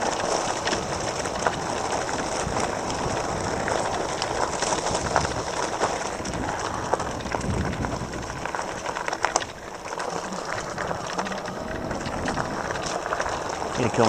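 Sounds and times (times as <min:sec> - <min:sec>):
bike tyres on dirt trail: 0:00.0 - 0:14.0.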